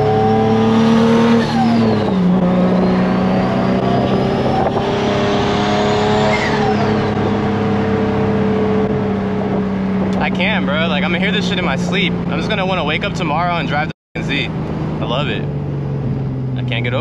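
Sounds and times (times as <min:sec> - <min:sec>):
car engine pulling hard: 0:00.0 - 0:17.0.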